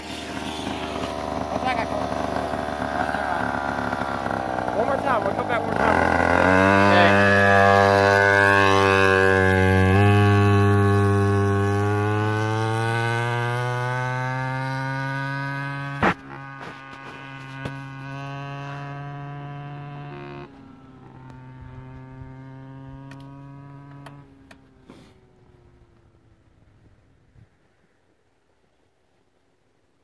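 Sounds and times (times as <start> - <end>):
two-stroke engine at high revs: 0.0 - 25.2.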